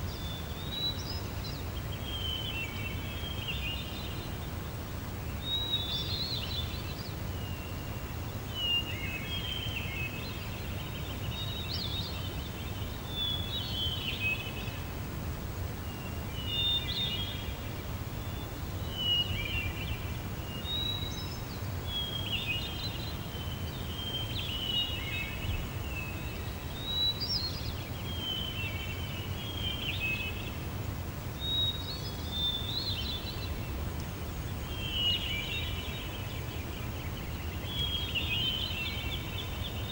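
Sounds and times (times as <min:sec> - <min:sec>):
songbird singing: 0:05.3 - 0:14.9, 0:15.8 - 0:30.7, 0:31.4 - 0:39.9.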